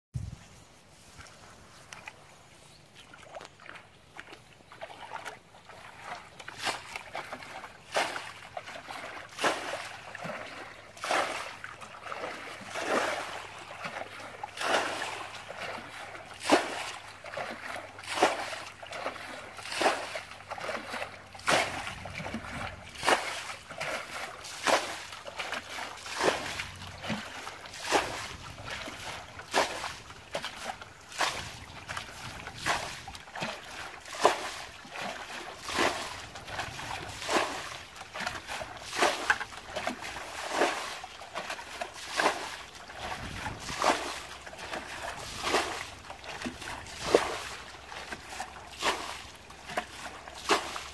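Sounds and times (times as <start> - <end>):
water sloshing: 0.9 - 50.9
water splashing from bucket: 3.2 - 50.9.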